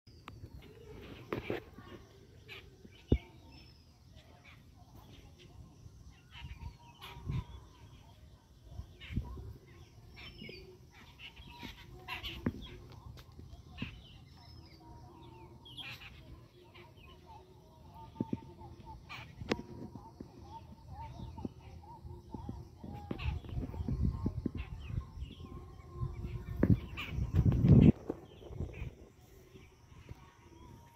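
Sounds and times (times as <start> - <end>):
birds chattering: 0.1 - 30.9.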